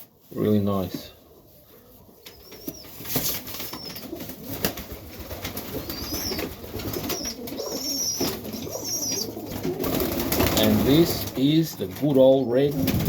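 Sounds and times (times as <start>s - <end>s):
pigeons cooing: 1.2s - 13.0s.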